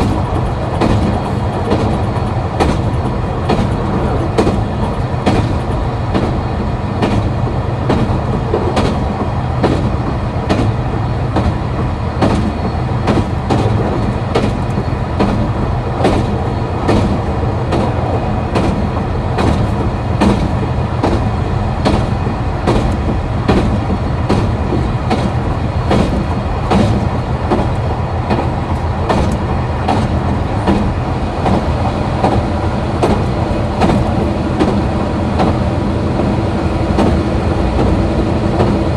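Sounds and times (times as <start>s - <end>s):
diesel railcar engine running: 0.0s - 38.9s
train wheels clicking over rail joints: 0.0s - 38.9s.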